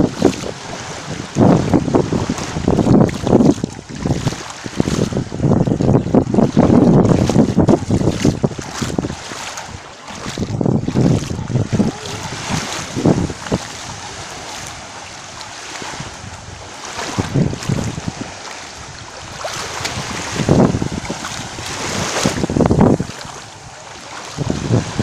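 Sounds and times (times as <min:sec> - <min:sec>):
small waves breaking on sand: 0:00.0 - 0:25.0
wind buffeting microphone: 0:00.0 - 0:25.0.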